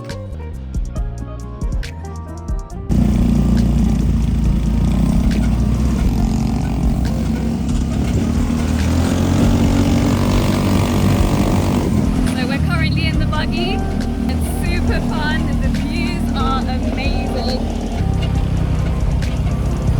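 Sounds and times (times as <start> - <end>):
buggy engine running: 0.0 - 19.9.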